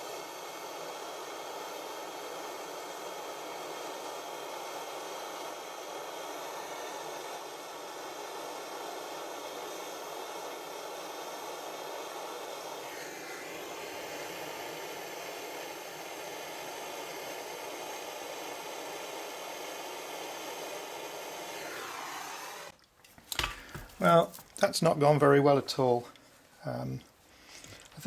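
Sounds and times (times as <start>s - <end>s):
blow lamp hissing: 0.0s - 28.0s.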